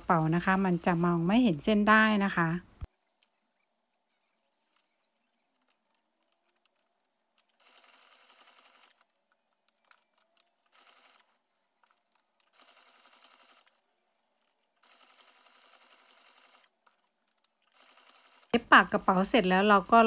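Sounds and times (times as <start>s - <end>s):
sewing machine stitching: 3.0s - 19.8s.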